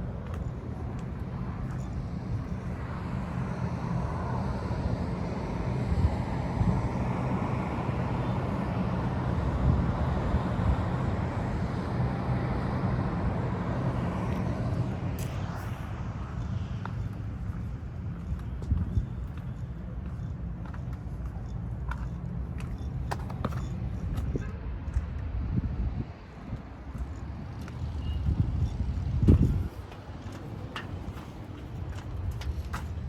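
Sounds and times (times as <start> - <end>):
traffic rumble: 0.0 - 33.0.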